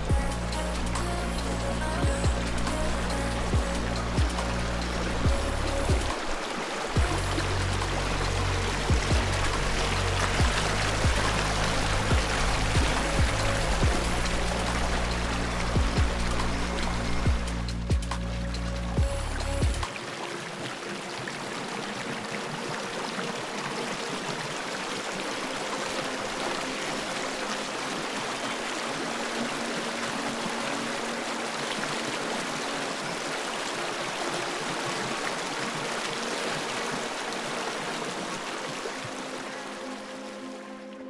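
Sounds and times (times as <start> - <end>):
creek water flowing: 0.0 - 41.0.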